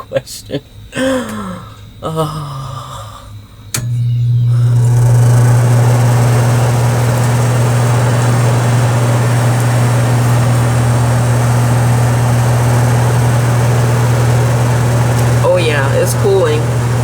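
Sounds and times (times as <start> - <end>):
air conditioner compressor hum: 0.0 - 17.0
air conditioner fan rushing: 3.3 - 17.0.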